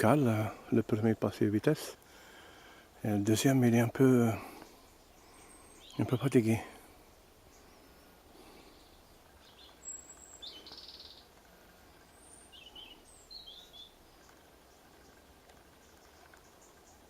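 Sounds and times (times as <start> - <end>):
faint steady hiss: 0.0 - 17.0
small birds chirping: 0.0 - 17.0.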